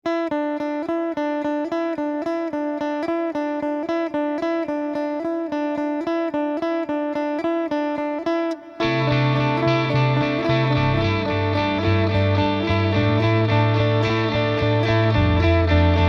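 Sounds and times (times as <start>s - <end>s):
electric guitar picking notes: 0.1s - 16.0s.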